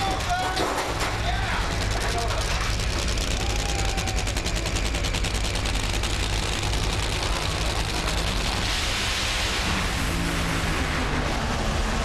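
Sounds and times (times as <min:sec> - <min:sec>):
drag racing engines at full throttle: 0:00.0 - 0:12.0.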